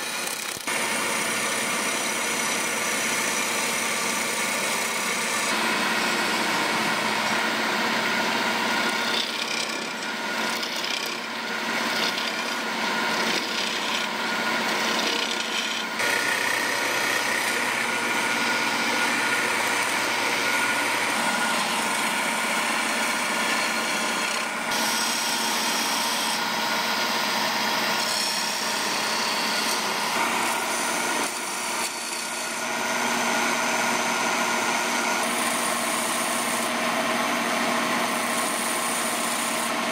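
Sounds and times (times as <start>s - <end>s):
lathe machine hum: 0.0s - 39.9s
lathe tool rasping on wood: 0.0s - 39.9s.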